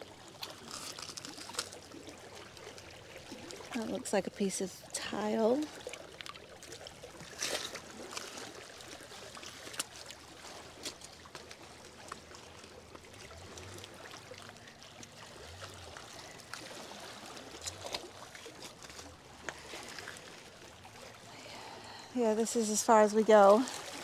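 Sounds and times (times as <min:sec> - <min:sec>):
river water lapping on stones: 0:00.0 - 0:24.0.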